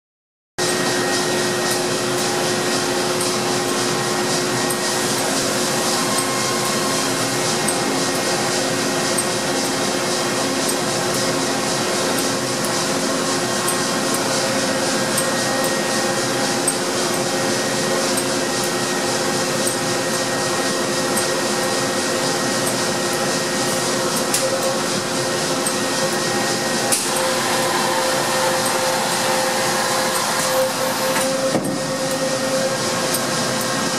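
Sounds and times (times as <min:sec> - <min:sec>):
machine humming: 0:00.6 - 0:33.9.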